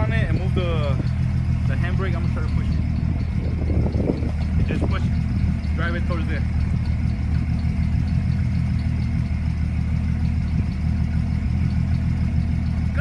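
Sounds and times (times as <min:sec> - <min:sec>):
car engine idling: 0:00.0 - 0:13.0
faint regular ticking: 0:00.3 - 0:13.0.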